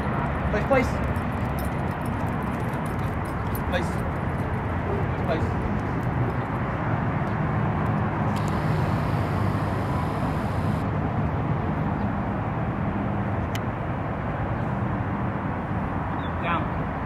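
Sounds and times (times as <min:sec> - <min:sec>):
outdoor background rumble: 0:00.0 - 0:16.1.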